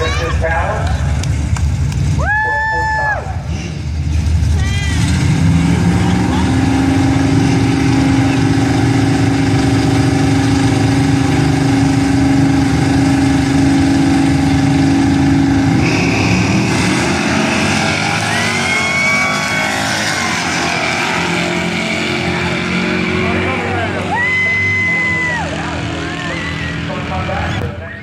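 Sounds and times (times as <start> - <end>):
racing car engines revving: 0.0 - 28.0.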